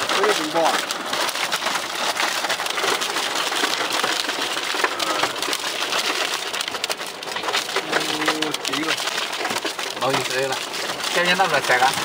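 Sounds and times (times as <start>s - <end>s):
hail clattering on car roof: 0.0s - 12.0s
rain noise: 0.0s - 12.0s.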